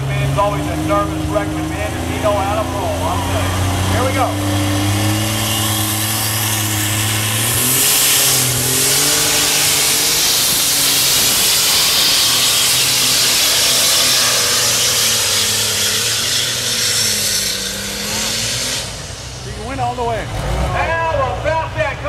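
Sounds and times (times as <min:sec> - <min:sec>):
tractor diesel engine at full power: 0:00.0 - 0:22.0.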